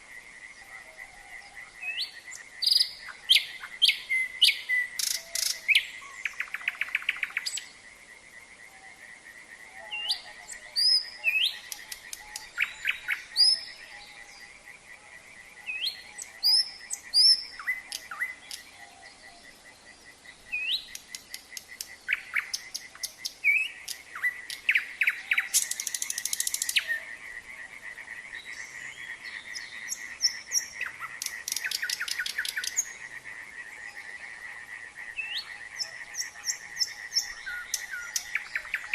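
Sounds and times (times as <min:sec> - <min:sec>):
nightingale singing: 0:00.0 - 0:07.9, 0:08.5 - 0:38.9
frogs calling in fast pulses: 0:00.0 - 0:38.9.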